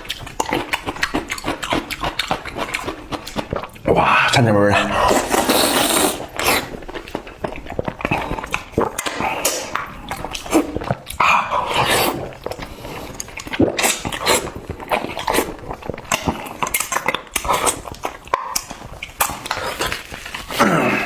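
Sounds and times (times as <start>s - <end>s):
wet chewing and lip smacking: 0.0s - 20.8s.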